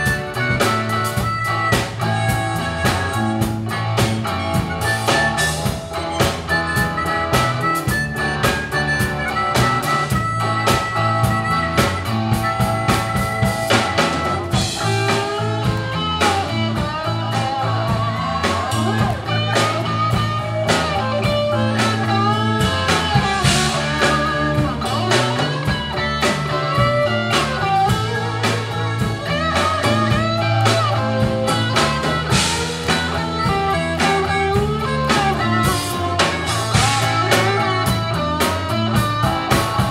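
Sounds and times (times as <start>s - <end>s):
bass: 0.0s - 39.9s
drum kit: 0.0s - 39.9s
electric guitar: 0.0s - 39.9s
harmonica: 0.0s - 39.9s.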